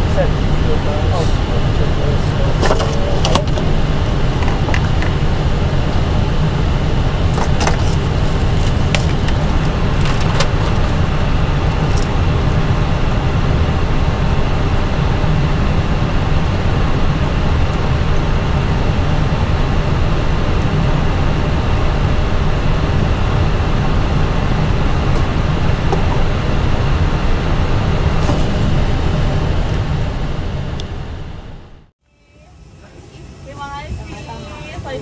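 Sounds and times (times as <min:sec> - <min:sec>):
air conditioning rushing hum: 0:00.0 - 0:35.0.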